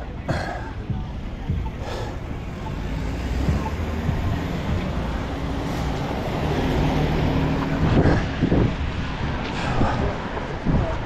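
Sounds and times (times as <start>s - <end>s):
truck engine hum: 0.0s - 11.0s
tyres on wet pavement: 0.0s - 11.0s.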